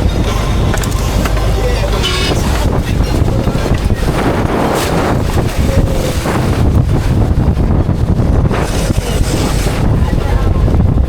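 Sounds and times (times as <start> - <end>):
water noise: 0.0 - 11.0
wind buffeting microphone: 0.0 - 11.0.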